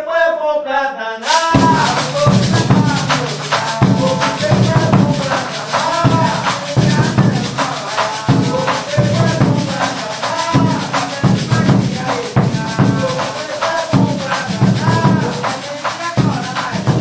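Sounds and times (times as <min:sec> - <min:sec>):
man singing: 0:00.0 - 0:17.0
pandeiro jingling beat: 0:01.2 - 0:17.0
low drum pulse: 0:01.3 - 0:17.0.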